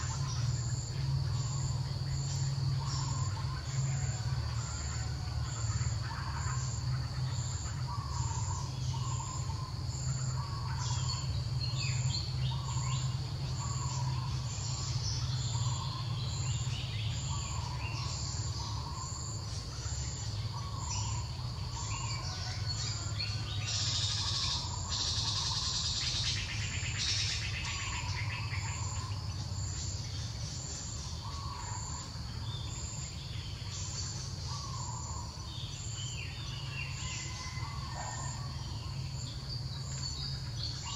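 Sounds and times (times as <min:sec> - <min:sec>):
pulsing insect drone: 0:00.0 - 0:40.9.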